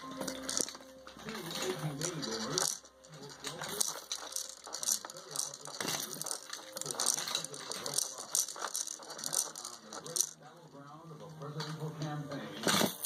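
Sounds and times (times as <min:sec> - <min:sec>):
plastic toy clicking and ratcheting: 0:00.1 - 0:10.9.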